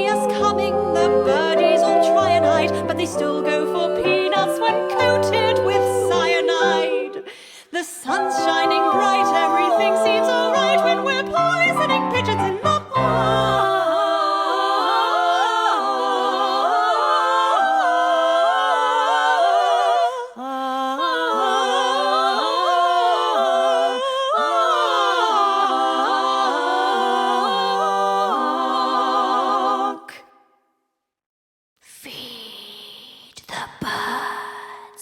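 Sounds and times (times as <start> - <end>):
women singing a cappella: 0.0 - 30.5, 32.0 - 35.0.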